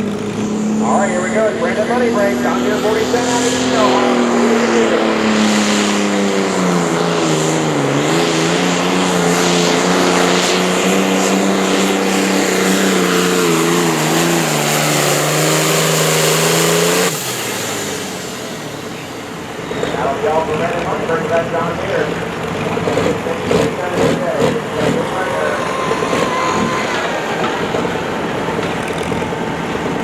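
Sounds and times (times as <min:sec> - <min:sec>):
engine at full throttle: 0:00.0 - 0:30.0.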